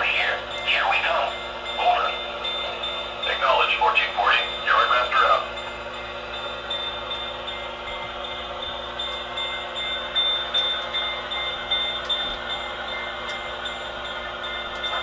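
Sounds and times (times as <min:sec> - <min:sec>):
model train rolling: 0:00.0 - 0:15.0.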